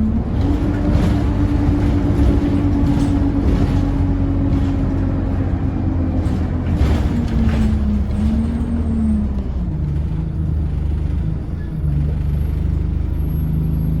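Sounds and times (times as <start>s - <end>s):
bus engine running loudly: 0.0s - 14.0s.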